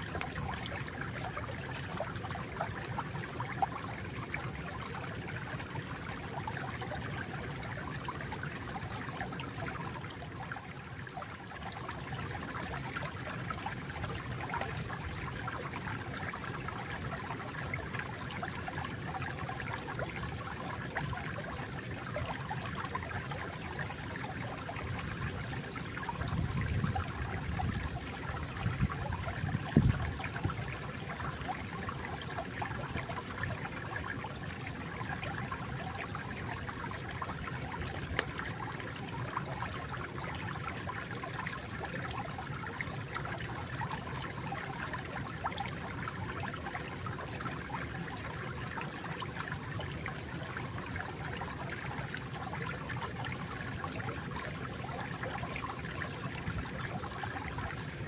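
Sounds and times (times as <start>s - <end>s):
stream trickling and gurgling: 0.0s - 58.0s.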